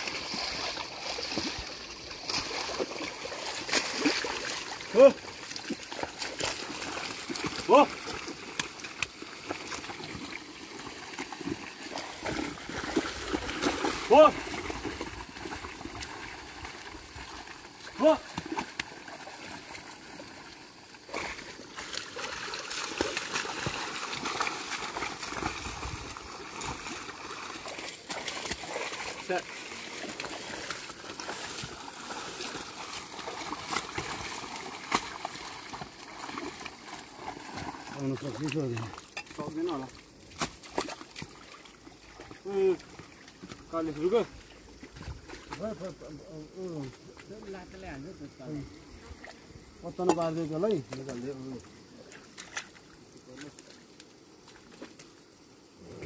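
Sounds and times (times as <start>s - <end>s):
mud and water squelching: 0.0s - 56.0s.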